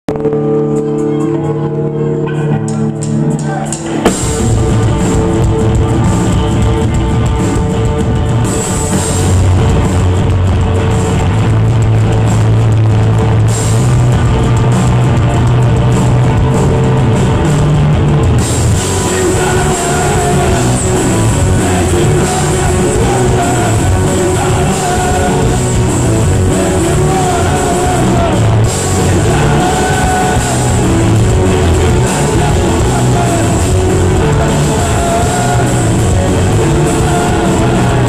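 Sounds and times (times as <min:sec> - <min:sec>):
bass guitar: 0:00.0 - 0:38.0
distorted electric guitars: 0:00.0 - 0:38.0
drum kit: 0:02.5 - 0:38.0.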